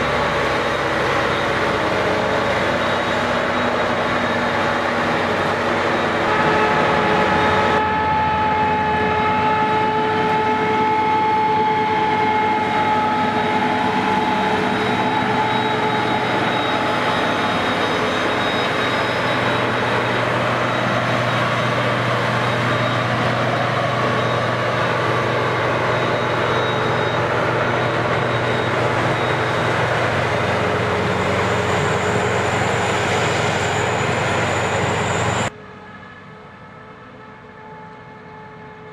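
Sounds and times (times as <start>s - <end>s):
heavy machinery droning: 0.0s - 38.9s.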